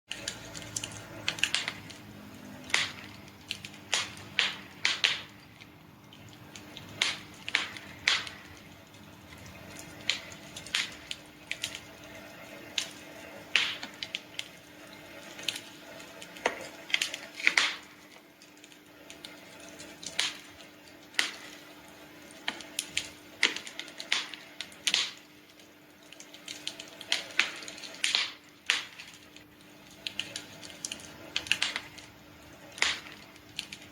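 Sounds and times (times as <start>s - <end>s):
faint steady hum: 0.1s - 33.9s
campfire crackling: 0.2s - 33.9s.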